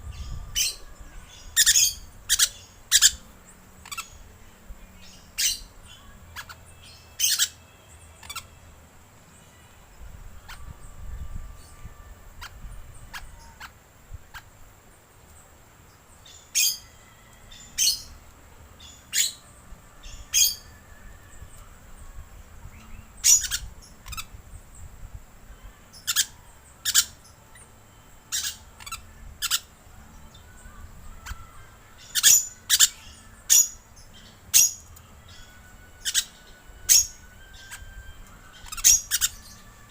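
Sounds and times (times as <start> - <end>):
lorikeets screeching: 0.1 - 8.7, 10.3 - 14.6, 16.3 - 18.2, 18.8 - 21.7, 22.7 - 24.4, 25.6 - 39.9.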